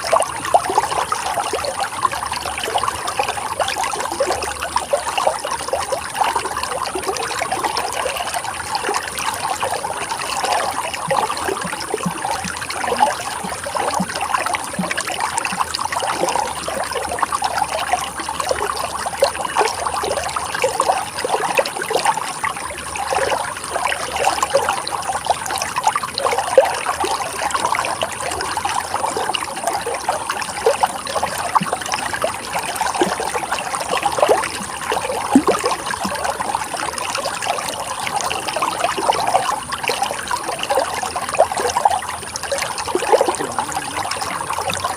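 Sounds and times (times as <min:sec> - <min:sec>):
running water flowing: 0:00.0 - 0:44.9.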